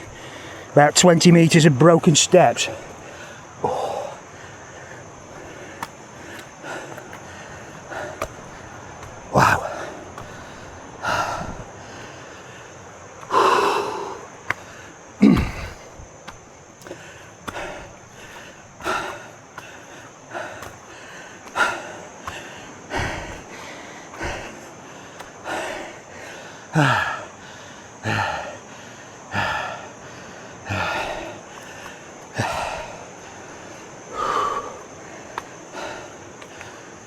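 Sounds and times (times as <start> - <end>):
man panting hard: 0.0 - 37.0.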